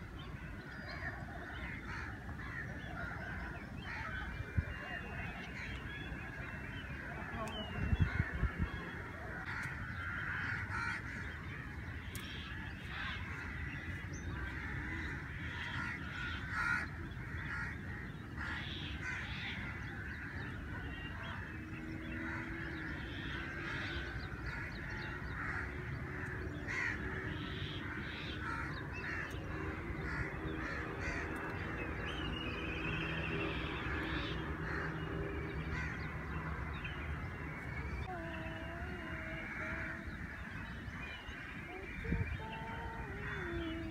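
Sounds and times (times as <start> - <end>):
birds calling: 0.0 - 43.9.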